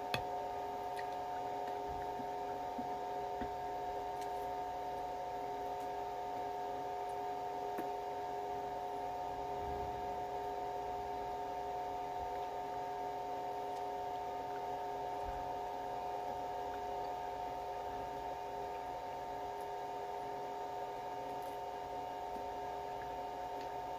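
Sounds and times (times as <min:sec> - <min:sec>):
steady hum of held tones: 0:00.0 - 0:23.9.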